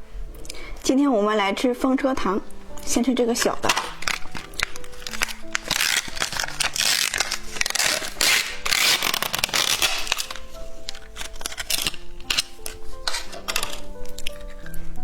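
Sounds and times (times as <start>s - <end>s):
background music simple melody: 0.0s - 15.0s
candy crackling and crunching: 2.8s - 15.0s.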